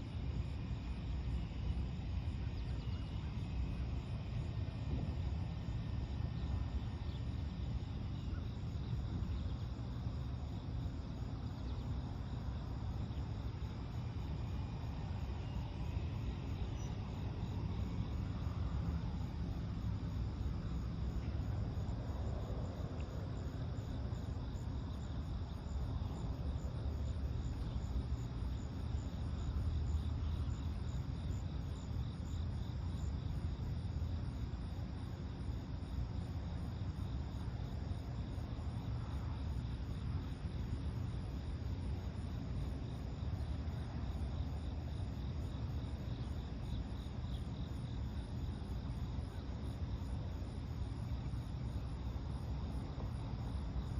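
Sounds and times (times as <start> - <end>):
insects chirping in pulses: 0.0 - 53.9
low background rumble: 0.0 - 53.9.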